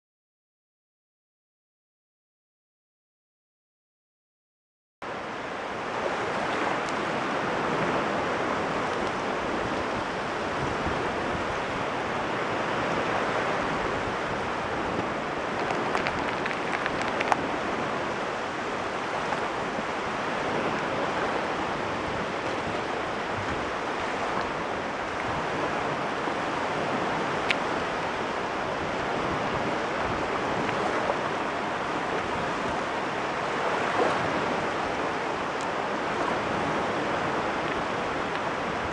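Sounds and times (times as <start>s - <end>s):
waves washing onto shore: 5.0s - 38.9s.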